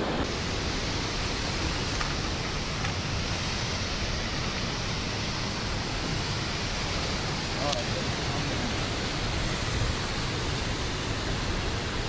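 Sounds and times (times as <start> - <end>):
fast-flowing river water: 0.0 - 12.0.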